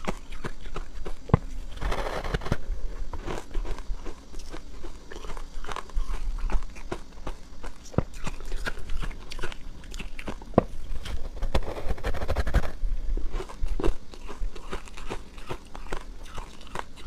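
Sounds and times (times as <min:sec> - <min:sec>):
ice crunching being chewed: 0:00.0 - 0:17.0.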